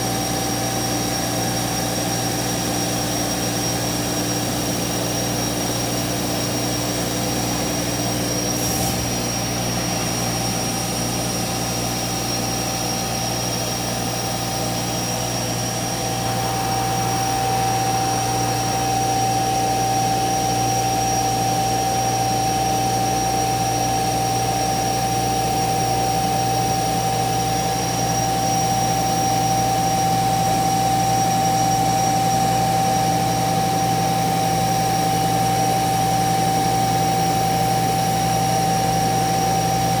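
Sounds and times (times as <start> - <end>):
router spindle drone and whine: 0.0 - 40.0.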